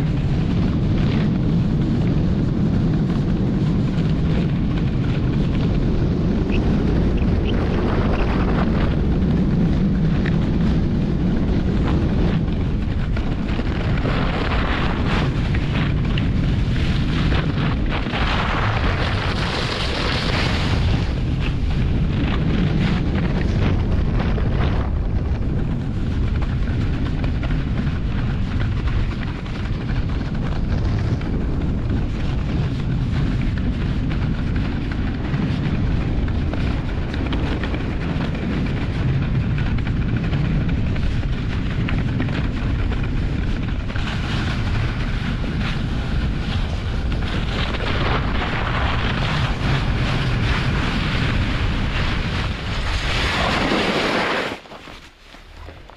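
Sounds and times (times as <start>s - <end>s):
sled runners scraping over snow: 0.0s - 55.9s
wind rushing over microphone: 0.0s - 55.9s.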